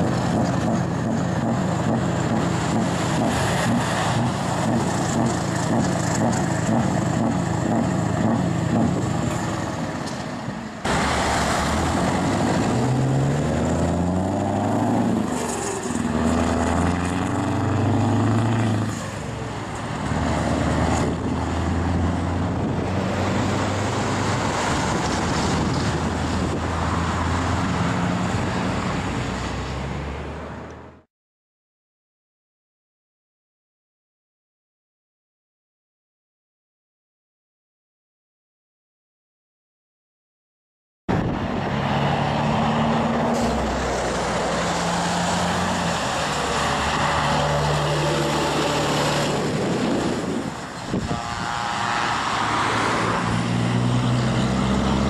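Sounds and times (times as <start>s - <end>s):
diesel truck engine accelerating: 0.0s - 31.1s, 41.1s - 55.0s.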